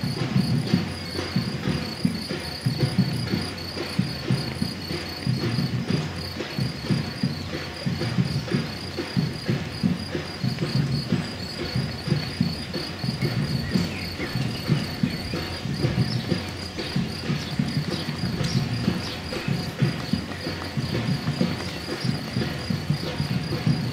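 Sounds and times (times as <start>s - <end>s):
runners' footsteps on asphalt: 0.0s - 23.9s
pulsing high chirp: 0.1s - 23.9s.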